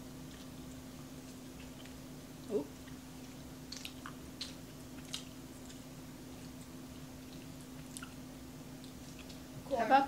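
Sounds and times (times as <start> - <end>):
faint steady hum: 0.0 - 10.0
wet chewing and mouth smacks: 0.2 - 2.0, 2.7 - 9.5.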